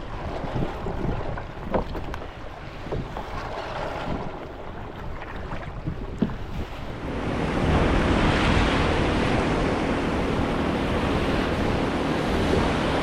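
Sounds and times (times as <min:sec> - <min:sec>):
surf rushing: 0:00.0 - 0:13.0
water lapping: 0:00.0 - 0:13.0
wind on microphone: 0:00.0 - 0:13.0.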